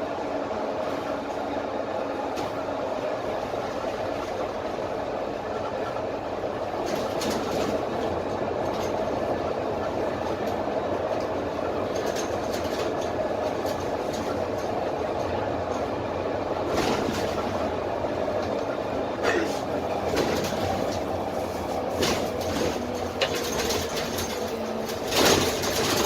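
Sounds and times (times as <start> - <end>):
bus body rattling: 0.0 - 26.0
bus diesel engine drone: 0.0 - 26.0
road noise: 0.0 - 26.0.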